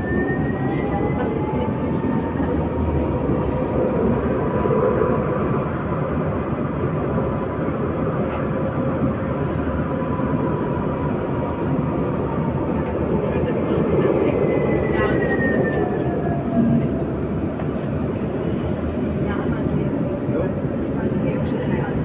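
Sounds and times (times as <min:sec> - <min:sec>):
train car rumble and rail noise: 0:00.0 - 0:22.0.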